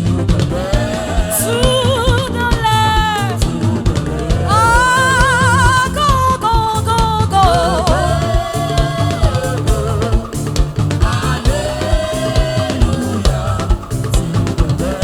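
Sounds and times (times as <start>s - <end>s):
drum kit and bass beat: 0.0s - 15.0s
voices singing with vibrato: 0.0s - 15.0s.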